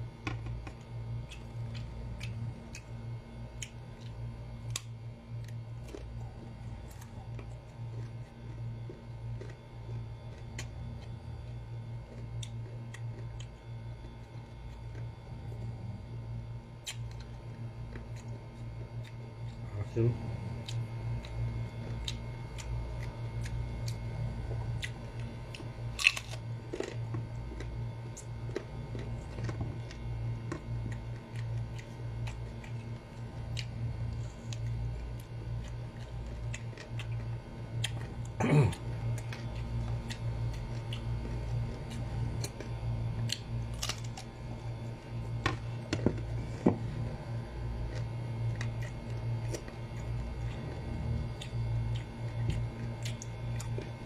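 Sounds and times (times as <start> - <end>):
low hum: 0.0 - 54.0
chewing crisp mango slices: 0.1 - 54.0.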